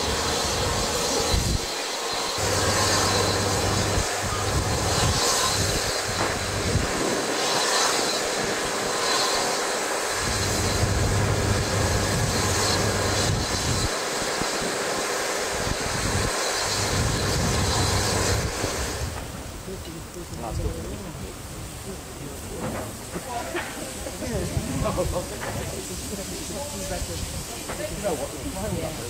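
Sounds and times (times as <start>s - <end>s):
locomotive surges: 0.0s - 29.0s
steam hissing: 0.0s - 29.0s.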